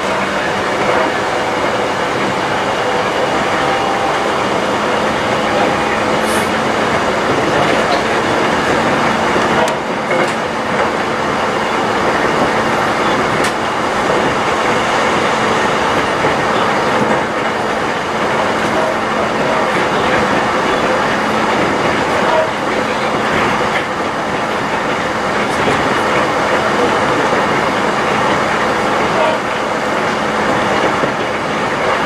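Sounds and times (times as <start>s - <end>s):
train wheels rolling on rails: 0.0s - 32.0s.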